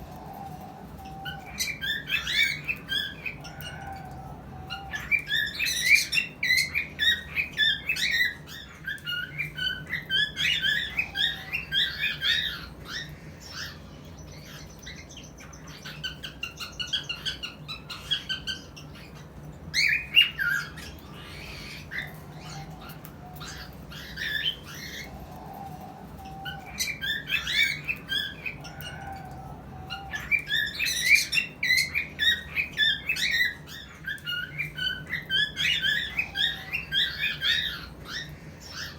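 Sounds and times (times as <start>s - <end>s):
cockatiels chirping and squawking: 0.0s - 38.9s.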